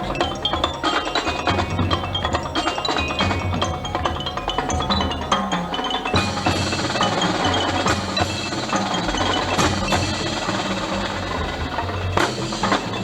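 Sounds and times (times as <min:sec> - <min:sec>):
mallet percussion: 0:00.0 - 0:13.0
marching band playing: 0:00.0 - 0:13.0.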